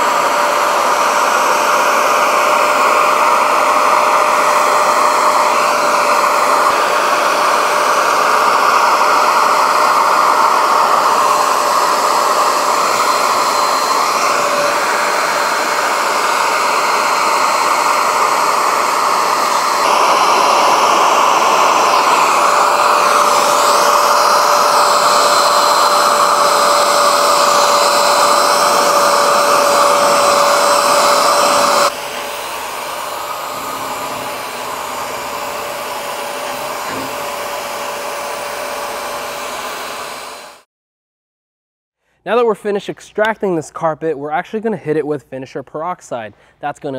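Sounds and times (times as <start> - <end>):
carpet cleaner suction whine: 0.0 - 40.7
water sucked through nozzle: 0.1 - 39.7.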